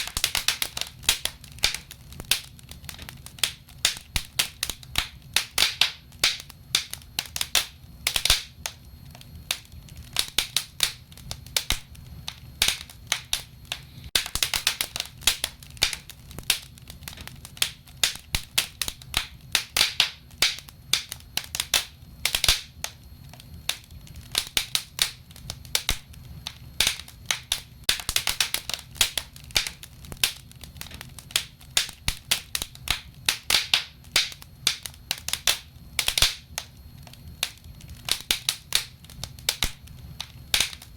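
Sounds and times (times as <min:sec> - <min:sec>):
low steady fire rumble: 0:00.0 - 0:40.9
wood fire crackling: 0:00.0 - 0:40.9.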